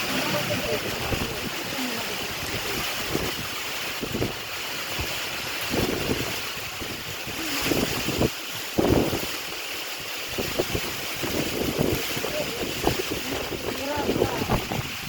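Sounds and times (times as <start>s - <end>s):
heavy rain hiss: 0.0s - 15.0s
storm wind buffeting microphone: 0.0s - 15.0s.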